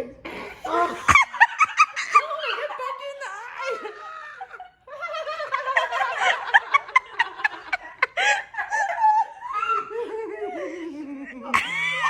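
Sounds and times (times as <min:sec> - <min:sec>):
group of people laughing: 0:00.2 - 0:12.0.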